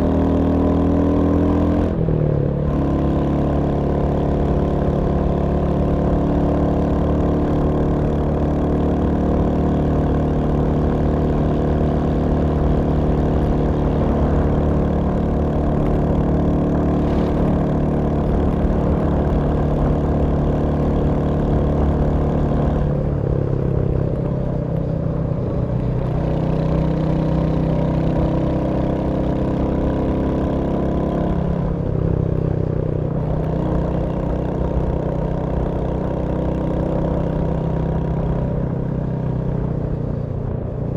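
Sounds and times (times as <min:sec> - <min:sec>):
single-cylinder motorcycle engine running: 0:00.0 - 0:40.9.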